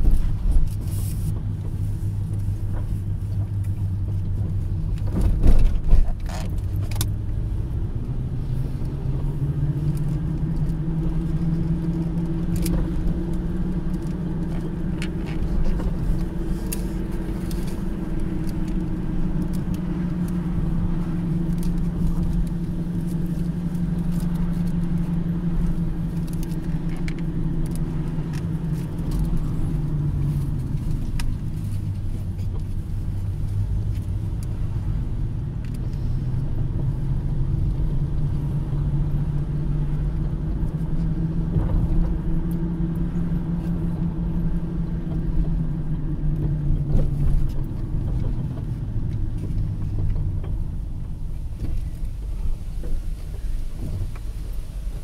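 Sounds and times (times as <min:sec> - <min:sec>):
car engine drone: 0:00.0 - 0:55.0
tyre and road noise: 0:00.0 - 0:55.0.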